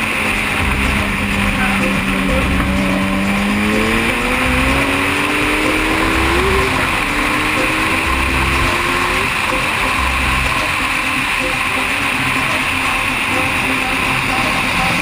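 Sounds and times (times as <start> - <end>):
motorcycle engine accelerating: 0.0 - 12.8.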